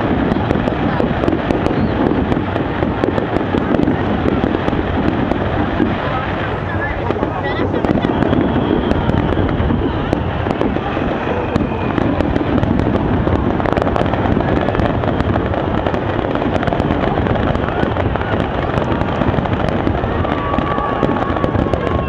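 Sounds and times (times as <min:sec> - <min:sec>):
fireworks bursting: 0:00.0 - 0:22.0
fireworks crackling: 0:00.0 - 0:22.0.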